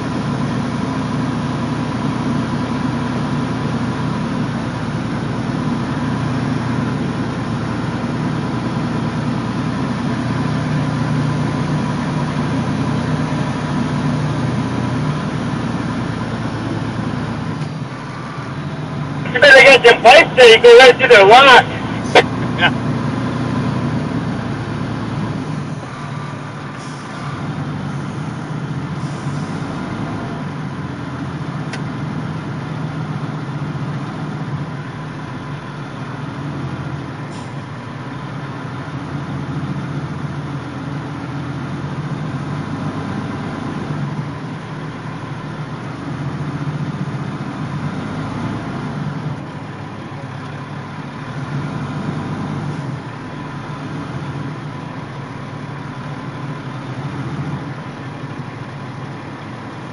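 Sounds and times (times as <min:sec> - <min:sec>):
truck engine drone: 0:00.0 - 0:59.9.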